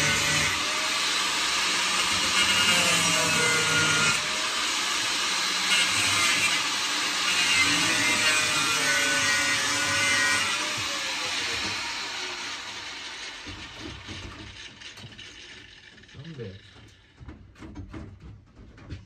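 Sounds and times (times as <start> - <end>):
angle grinder cutting metal: 0.0 - 16.7.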